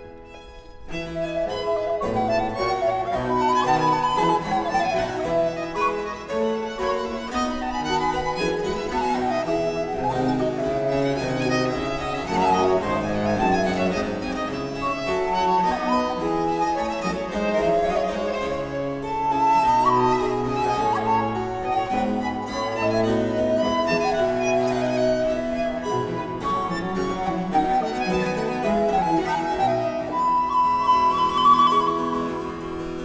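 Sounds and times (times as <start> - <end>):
baroque chamber ensemble: 0.0 - 33.0.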